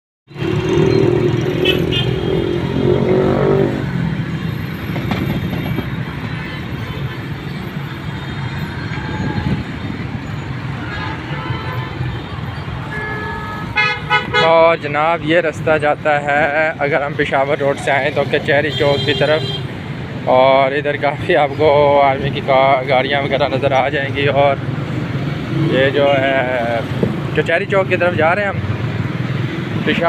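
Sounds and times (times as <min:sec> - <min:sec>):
rumble of traffic and tyres: 0:00.3 - 0:30.0.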